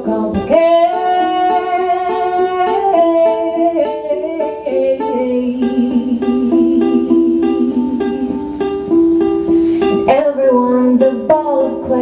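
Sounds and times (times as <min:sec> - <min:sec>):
person singing: 0:00.0 - 0:12.0
plucked ukulele: 0:00.0 - 0:12.0.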